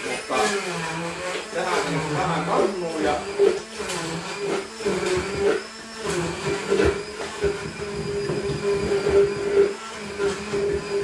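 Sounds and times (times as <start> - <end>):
stick blender motor whine: 0.0 - 11.0.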